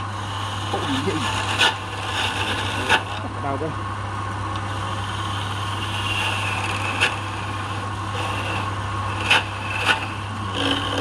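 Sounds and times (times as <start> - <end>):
chisel scraping spinning wood: 0.0 - 3.4, 4.6 - 11.0
wood lathe motor hum: 0.0 - 11.0.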